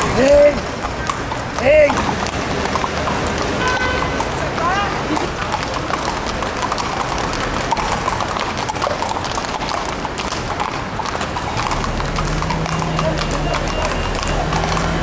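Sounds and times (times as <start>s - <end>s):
horse hooves clip-clopping on stone: 0.0s - 15.0s
street noise: 0.0s - 15.0s.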